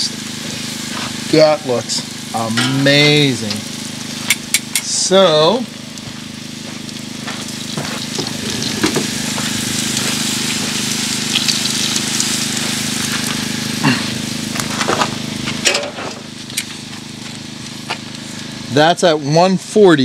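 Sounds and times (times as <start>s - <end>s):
meat sizzling on grill: 0.0s - 20.0s.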